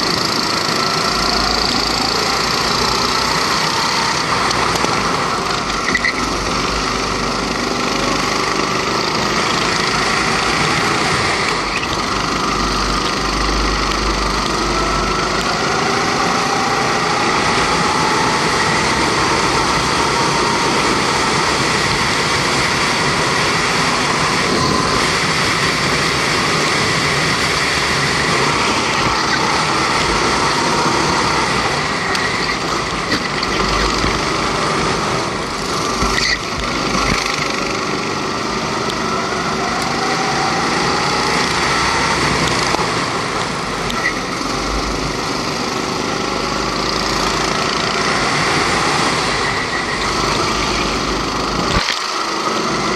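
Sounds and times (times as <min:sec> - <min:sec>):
go-kart engine running hard: 0:00.0 - 0:52.9.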